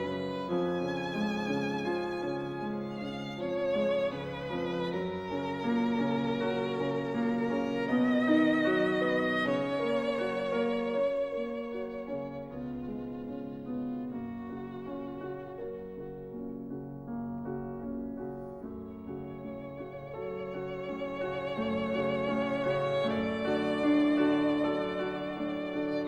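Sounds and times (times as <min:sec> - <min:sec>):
slow violin melody with vibrato: 0:00.0 - 0:26.0.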